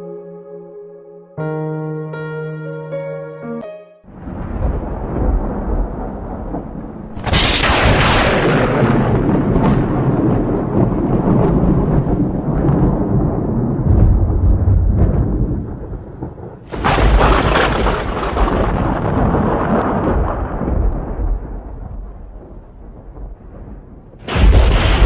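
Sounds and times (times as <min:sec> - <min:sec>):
rolling thunder rumble: 0:04.1 - 0:25.0
thunder crack: 0:04.1 - 0:25.0.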